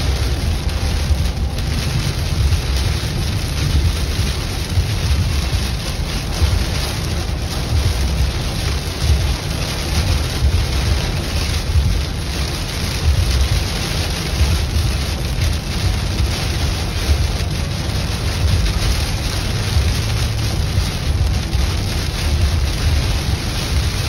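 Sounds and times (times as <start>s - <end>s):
heavy rain on car roof: 0.0s - 24.0s
road and wind rumble: 0.0s - 24.0s.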